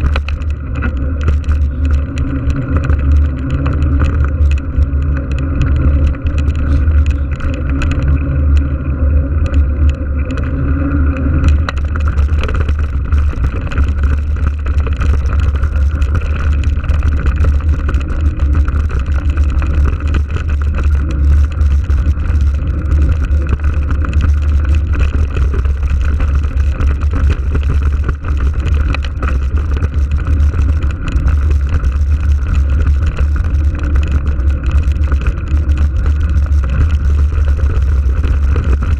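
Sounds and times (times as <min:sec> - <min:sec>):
tyres crackling on dirt: 0:00.0 - 0:38.9
wind buffeting microphone: 0:00.0 - 0:38.9.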